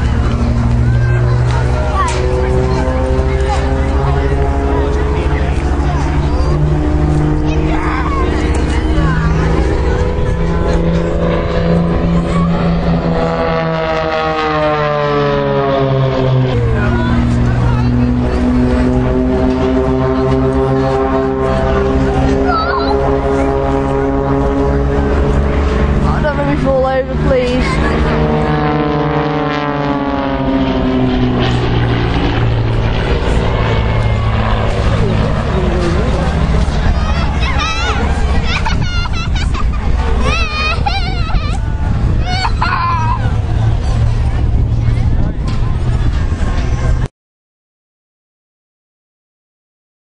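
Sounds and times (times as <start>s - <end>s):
aircraft flying past: 0.0s - 47.1s
constant low rumble: 0.0s - 47.1s.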